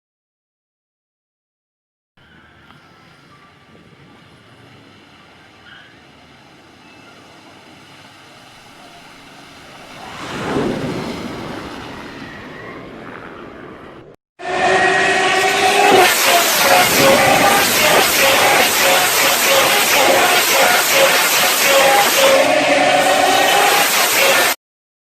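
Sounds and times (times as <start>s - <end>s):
vehicle passing: 2.2s - 14.2s, 14.8s - 23.3s.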